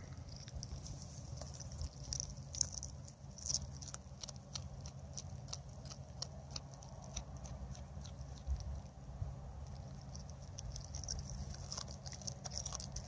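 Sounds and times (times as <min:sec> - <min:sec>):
cat chewing with sharp clicks: 0:00.0 - 0:13.0.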